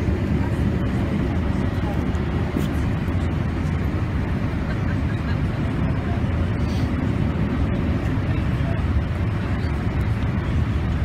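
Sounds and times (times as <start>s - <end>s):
jet engines rumbling in cabin: 0.0s - 11.0s
rushing air: 0.0s - 11.0s.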